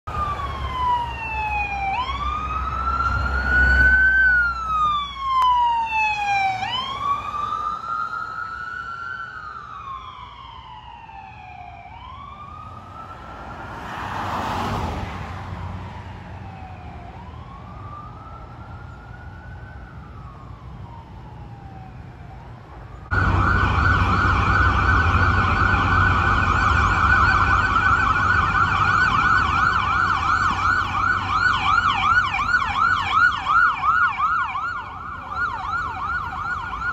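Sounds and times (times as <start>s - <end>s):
passing vehicles: 0.0s - 36.9s
ambulance siren yelping: 0.1s - 13.6s, 15.6s - 36.9s
siren wailing: 0.1s - 13.6s, 15.6s - 36.9s.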